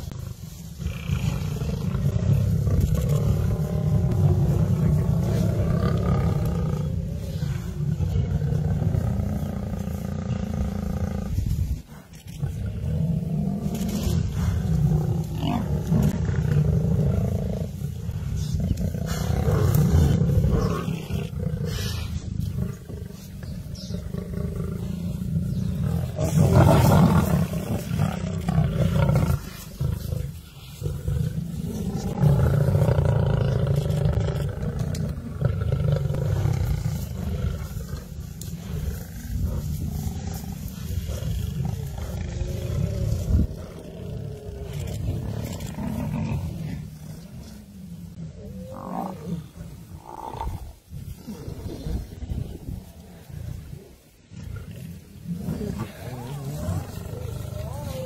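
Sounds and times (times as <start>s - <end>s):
lions roaring: 0.0s - 11.5s, 12.2s - 58.0s.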